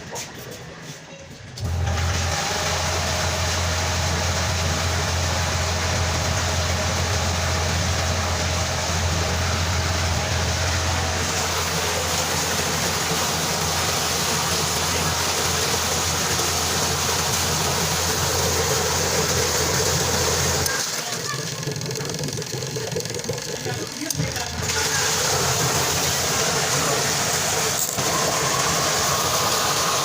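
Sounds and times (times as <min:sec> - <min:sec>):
washing machine motor humming: 0:01.6 - 0:30.0.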